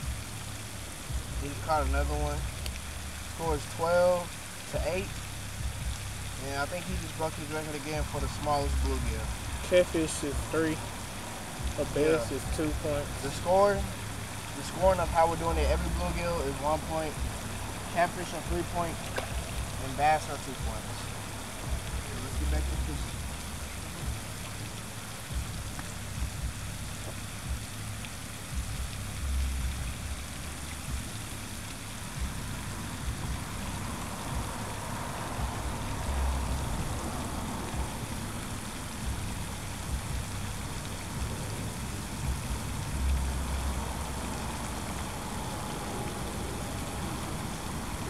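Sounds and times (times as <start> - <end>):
steady outdoor hiss: 0.0 - 48.0.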